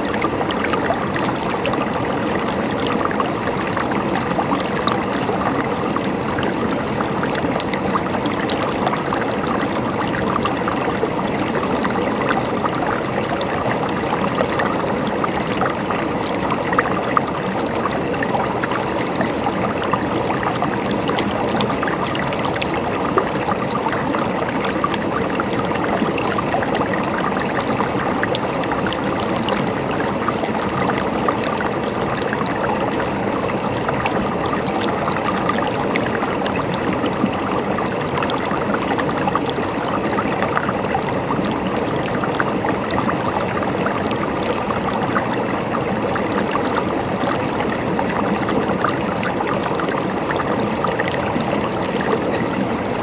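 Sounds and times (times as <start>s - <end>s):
stream water running: 0.0s - 53.0s.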